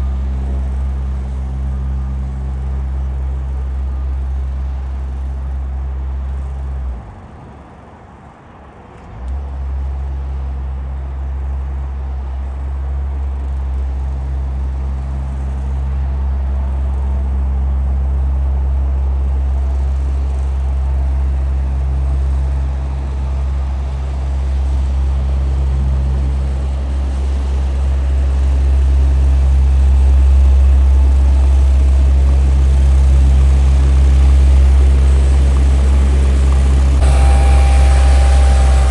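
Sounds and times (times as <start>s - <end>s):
road roller drone: 0.0s - 38.9s.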